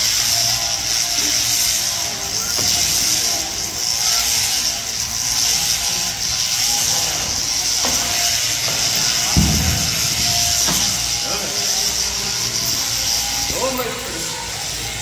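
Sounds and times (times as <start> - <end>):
shearing handpiece buzzing: 0.0 - 15.0.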